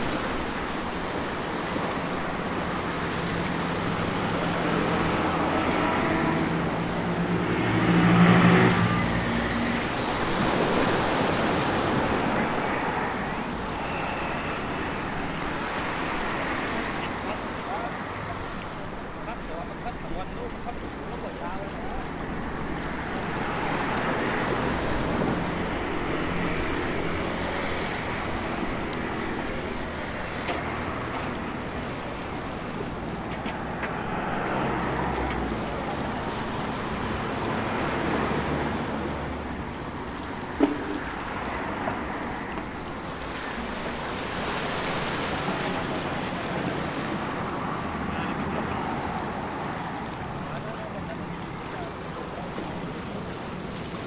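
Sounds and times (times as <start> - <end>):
street traffic hum: 0.0 - 54.0
waves washing against rocks: 0.0 - 54.0.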